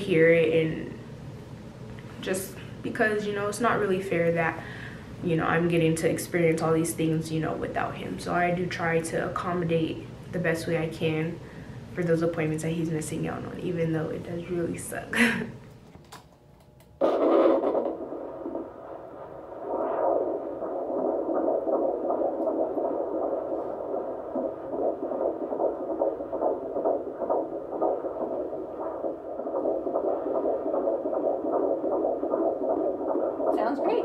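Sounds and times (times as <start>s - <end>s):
doppler fetal heartbeat pulsing: 0.0s - 1.1s, 3.0s - 15.2s, 17.0s - 34.0s.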